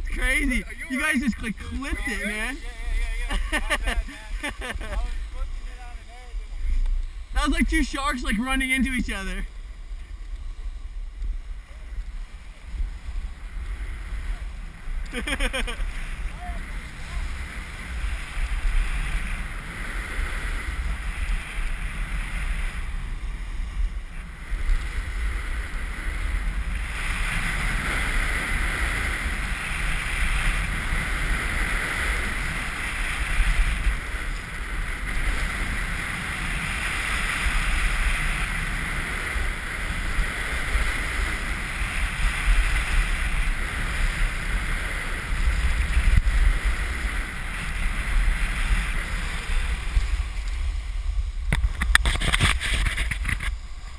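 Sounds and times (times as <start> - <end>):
wind on microphone: 0.0 - 53.9
snowboard edge scraping snow: 0.1 - 7.6, 12.3 - 53.9.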